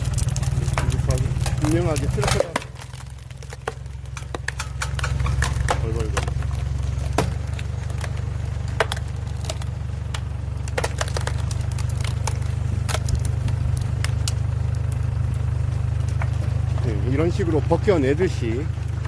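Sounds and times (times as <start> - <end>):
log cracking and snapping: 0.0 - 17.9
tractor engine idling: 0.0 - 19.0.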